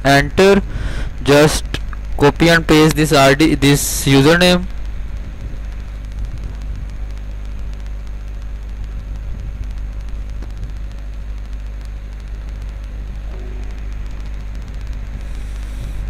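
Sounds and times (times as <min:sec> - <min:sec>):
low rumble with faint hiss: 0:00.0 - 0:16.0.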